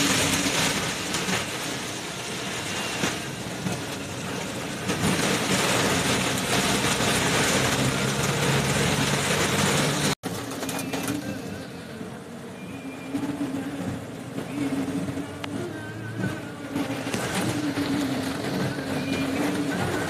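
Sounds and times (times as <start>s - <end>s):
car engine humming: 0.0s - 20.0s
heavy rain on car roof: 0.0s - 20.0s.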